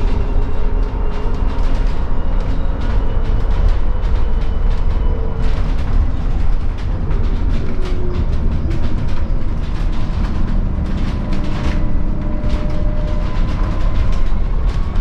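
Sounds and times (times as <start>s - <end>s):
bus road rumble: 0.0s - 15.0s.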